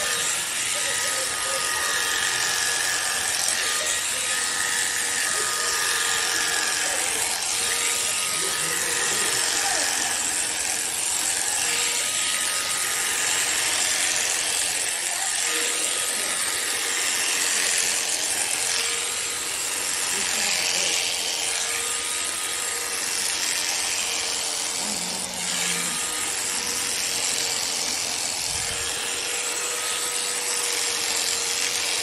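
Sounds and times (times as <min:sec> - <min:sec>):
electric shears buzzing: 0:00.0 - 0:32.0.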